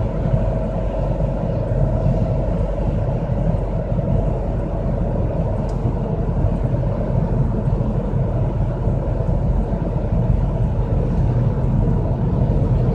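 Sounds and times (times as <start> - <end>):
low pulsing hum: 0.0 - 12.9
road and tyre noise: 0.0 - 12.9.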